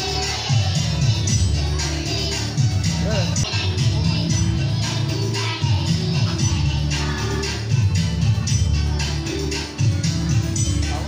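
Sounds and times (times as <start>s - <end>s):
christmas carol backing music: 0.0s - 11.0s.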